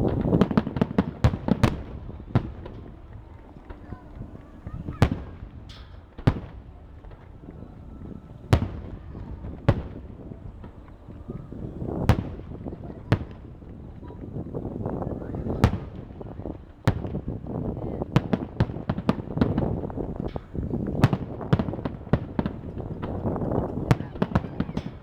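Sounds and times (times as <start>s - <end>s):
fireworks bursting with bangs: 0.0s - 25.0s.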